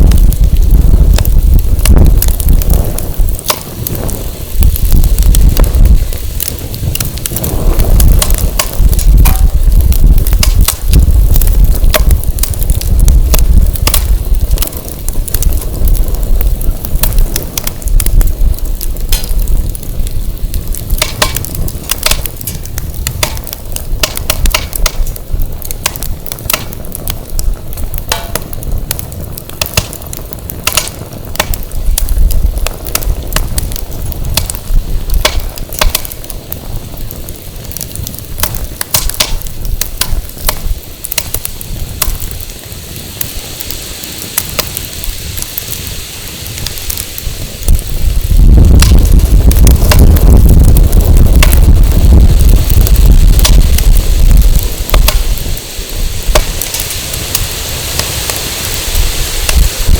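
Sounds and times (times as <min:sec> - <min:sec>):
firewood crackling and popping: 0:00.0 - 0:59.9
wind buffeting microphone: 0:00.0 - 0:59.9.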